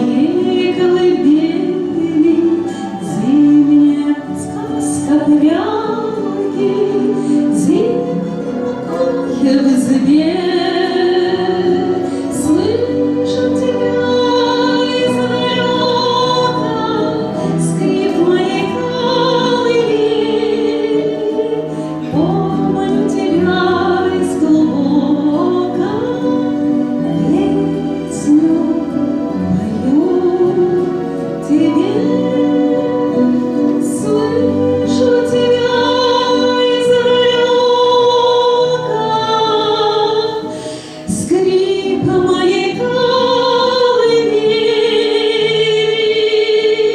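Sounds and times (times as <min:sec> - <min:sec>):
instrumental accompaniment: 0:00.0 - 0:46.9
woman singing slow song: 0:00.0 - 0:46.9.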